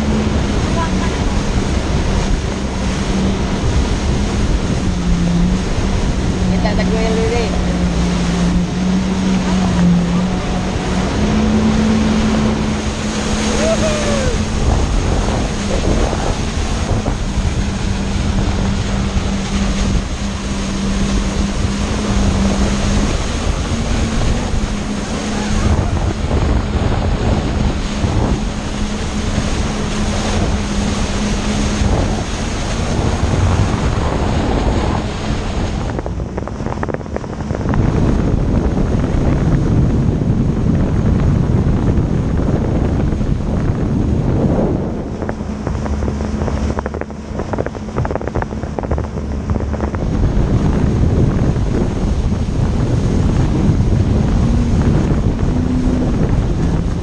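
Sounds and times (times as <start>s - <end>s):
watercraft engine drone: 0.0s - 57.0s
wind buffeting microphone: 0.0s - 57.0s.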